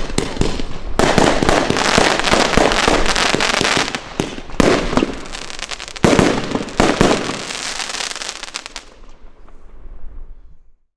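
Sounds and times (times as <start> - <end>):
firework bangs: 0.0 - 9.0
firework crackling: 0.0 - 9.1.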